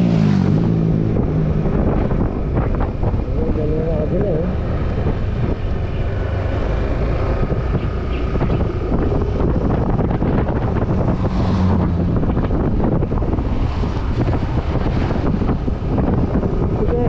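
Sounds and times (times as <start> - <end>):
motorcycle running: 0.0 - 17.0
wind buffeting microphone: 0.0 - 17.0.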